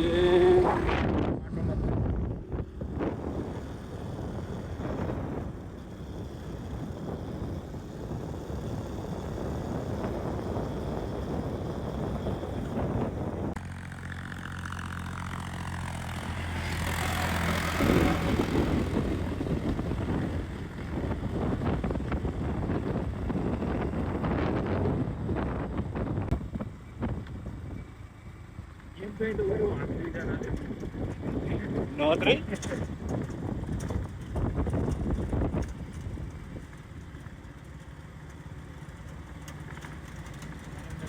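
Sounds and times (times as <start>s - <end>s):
wind rush on microphone: 0.0s - 13.6s, 16.8s - 28.0s, 29.0s - 37.2s
motorcycle engine humming: 0.0s - 41.0s.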